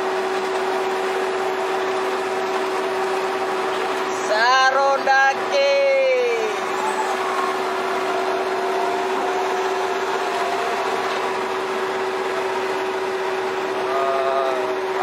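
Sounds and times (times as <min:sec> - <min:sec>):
ship machinery humming: 0:00.0 - 0:15.0.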